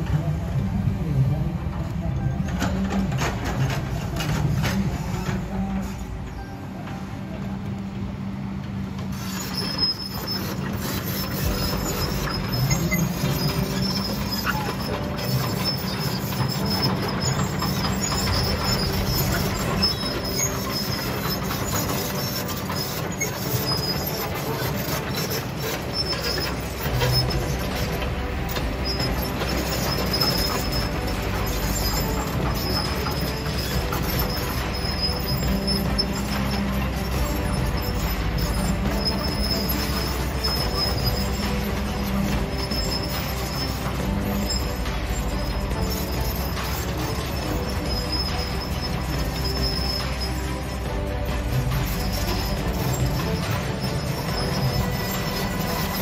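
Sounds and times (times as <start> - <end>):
excavator diesel engine running: 0.0 - 56.0
thin high squeal: 9.1 - 56.0.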